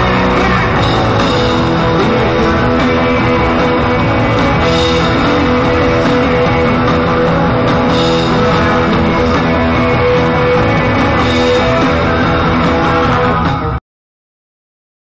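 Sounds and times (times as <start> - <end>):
drum kit: 0.0 - 13.8
rock band playing live: 0.0 - 13.8.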